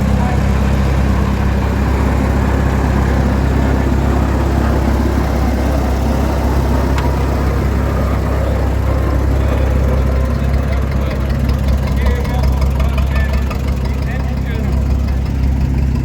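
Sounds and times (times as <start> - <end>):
tractor engine low drone: 0.0 - 16.0.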